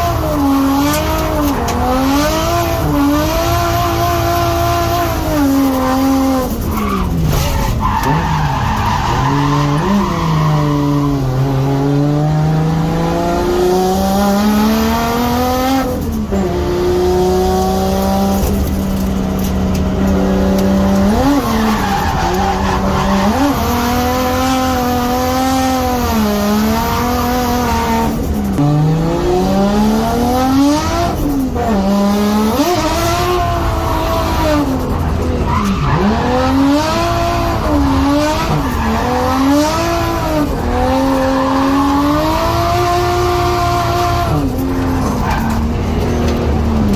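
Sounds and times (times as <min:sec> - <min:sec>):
car engine revving hard: 0:00.0 - 0:46.9
tyres skidding: 0:00.0 - 0:46.9.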